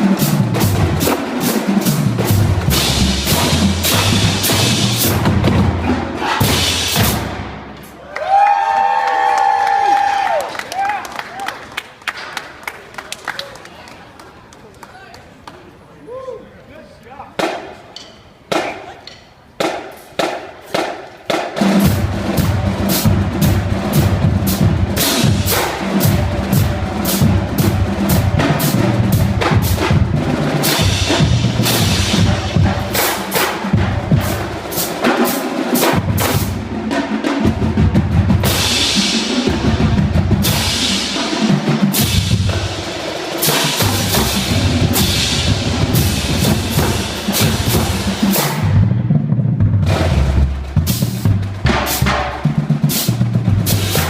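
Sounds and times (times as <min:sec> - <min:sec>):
marching drum line: 0:00.0 - 0:12.8, 0:17.3 - 0:54.0.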